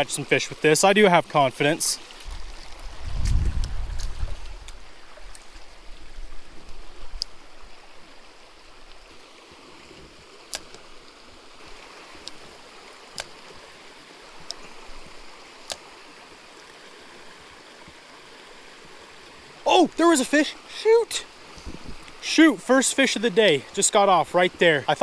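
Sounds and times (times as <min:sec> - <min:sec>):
creek flowing over stones: 0:00.0 - 0:25.0.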